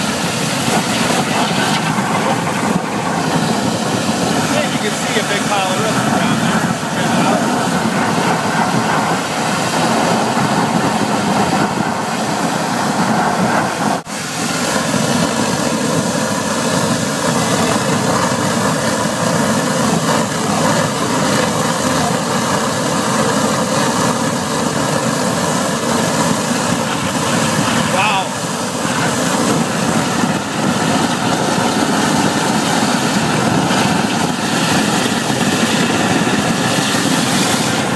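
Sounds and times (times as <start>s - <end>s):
water gushing from pipe: 0.0s - 37.9s
water jetter running: 0.0s - 37.9s.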